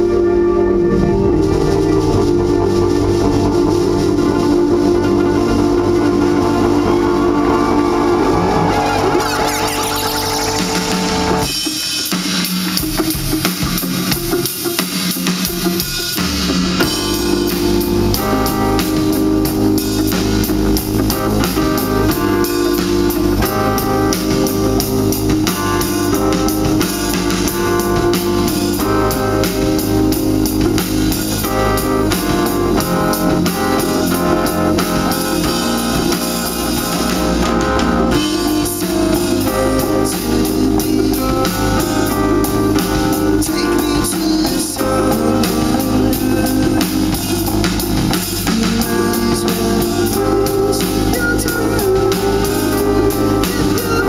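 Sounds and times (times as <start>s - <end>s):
live band over pa: 0.0s - 54.0s.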